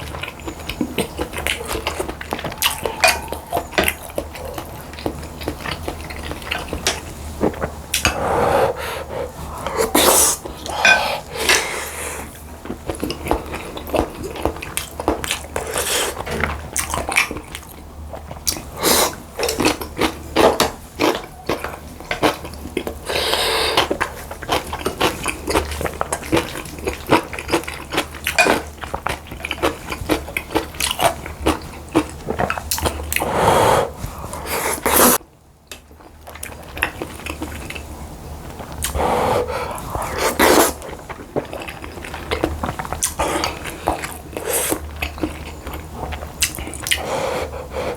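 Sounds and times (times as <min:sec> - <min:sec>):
chewing and biting food: 0:00.0 - 0:47.9.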